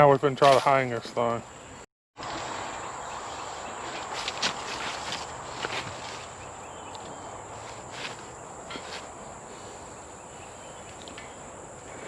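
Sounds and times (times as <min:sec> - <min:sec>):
insect chorus drone: 0:01.2 - 0:12.0.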